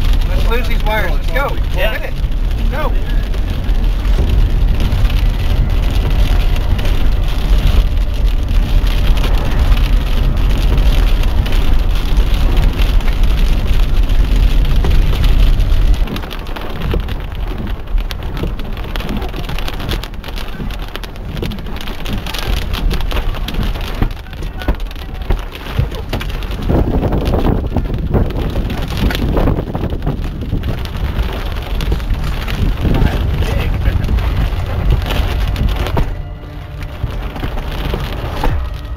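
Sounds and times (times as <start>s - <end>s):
heavy low rumble: 0.0s - 38.9s
rain pattering: 0.0s - 38.9s
wind gusts: 0.0s - 38.9s.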